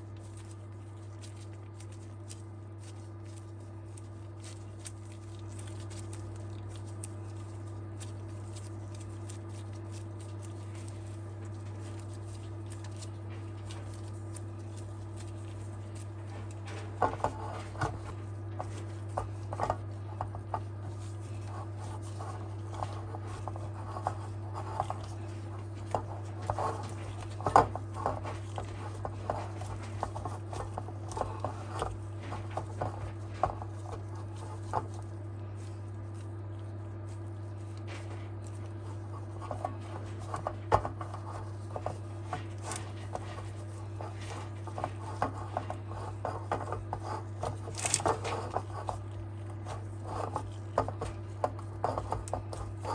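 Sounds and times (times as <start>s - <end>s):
low electrical hum: 0.0s - 52.9s.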